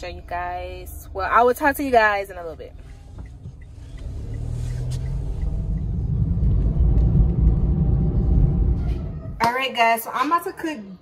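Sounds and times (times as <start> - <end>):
car in motion rumble: 0.0 - 9.4.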